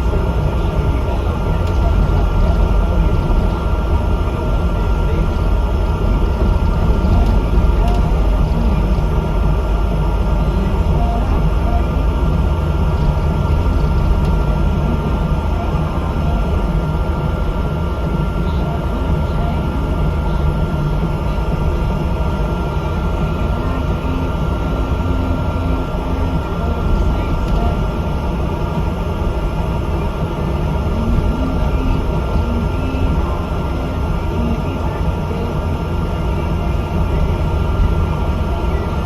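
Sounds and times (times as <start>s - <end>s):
bus engine low drone: 0.0s - 39.0s
thin constant whine: 0.0s - 39.0s.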